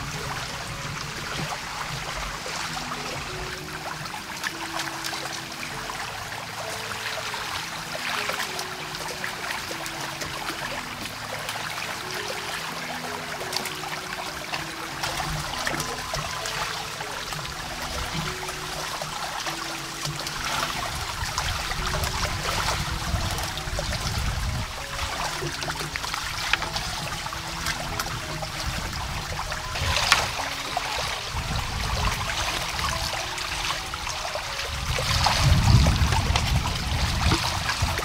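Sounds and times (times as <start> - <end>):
faint soft melody: 0.0 - 38.0
water trickling and splashing: 0.0 - 38.0.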